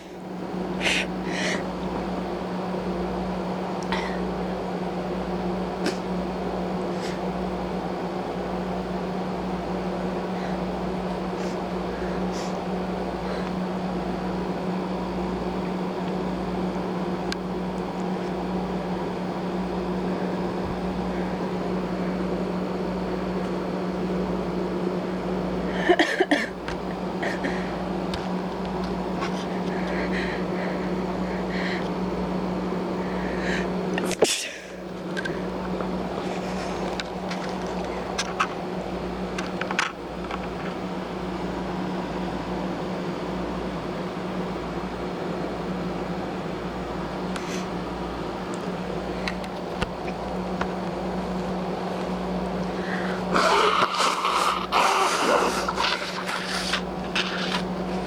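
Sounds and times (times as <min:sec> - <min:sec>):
appliance hum with hiss: 0:00.0 - 0:58.0.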